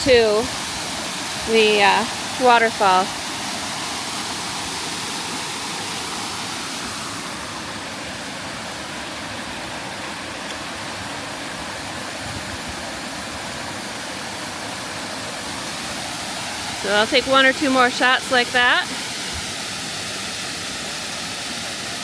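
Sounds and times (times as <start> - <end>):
waterfall rushing over rock: 0.0 - 22.0.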